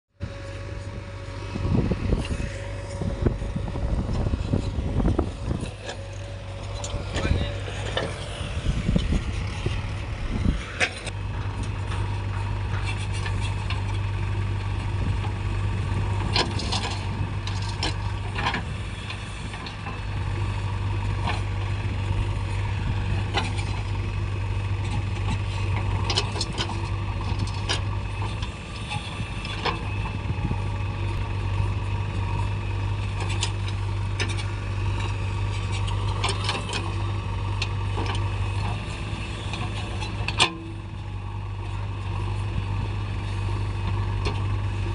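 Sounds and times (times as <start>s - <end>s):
diesel engines droning: 0.1s - 44.9s.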